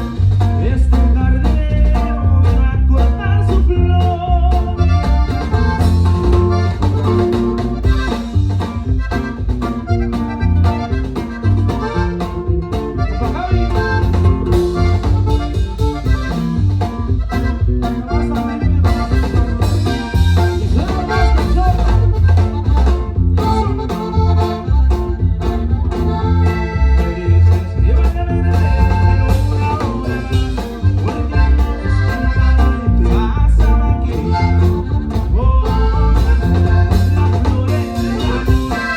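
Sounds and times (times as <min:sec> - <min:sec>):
accordion lead: 0:00.0 - 0:38.9
drum kit beat: 0:00.0 - 0:38.9
electric bass: 0:00.0 - 0:38.9.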